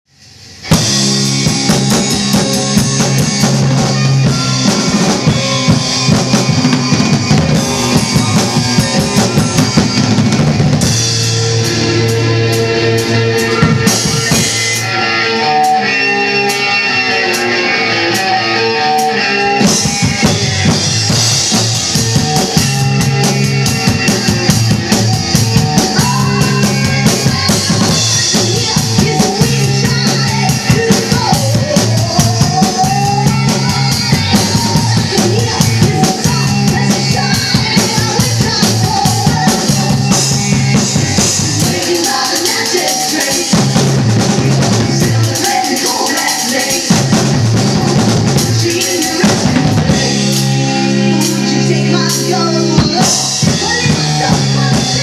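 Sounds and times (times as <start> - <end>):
live drum kit: 0.2 - 55.0
rock song with guitar: 0.3 - 55.0.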